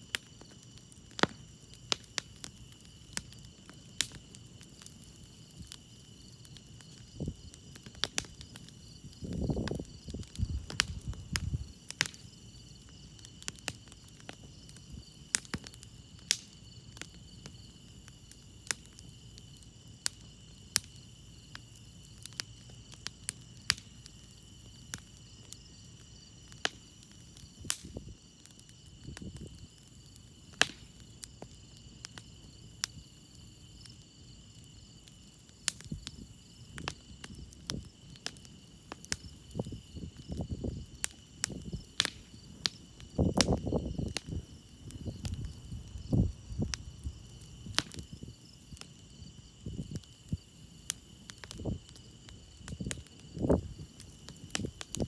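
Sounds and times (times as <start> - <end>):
campfire crackling: 0.0 - 55.0
crickets chirping: 0.2 - 55.0.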